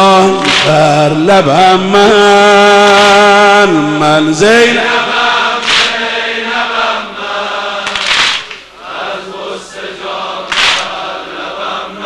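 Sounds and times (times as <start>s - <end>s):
men chanting a lament: 0.0s - 8.1s, 8.8s - 12.0s.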